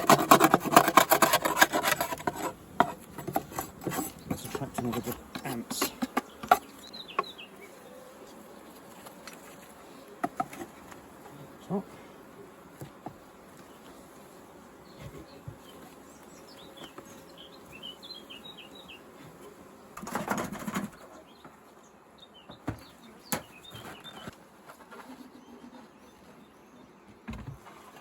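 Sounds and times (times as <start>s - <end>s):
honeybees buzzing: 0.0s - 28.0s
small birds chirping: 1.5s - 20.0s, 20.6s - 27.6s.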